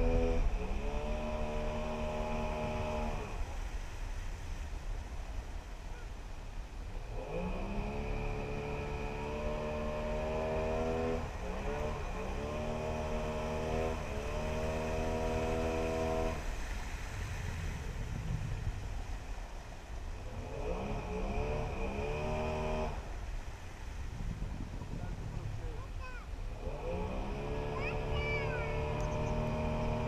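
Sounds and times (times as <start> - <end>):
outboard motor running: 0.0 - 4.5, 7.0 - 19.2, 20.2 - 30.0
wind and water rumble: 0.0 - 30.0.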